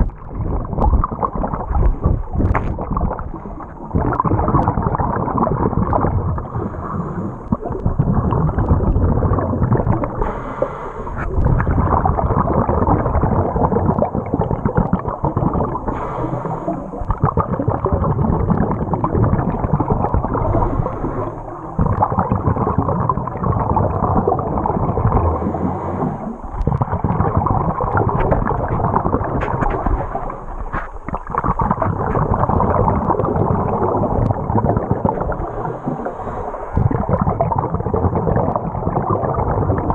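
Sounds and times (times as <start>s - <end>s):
muffled water rushing underwater: 0.0s - 39.9s.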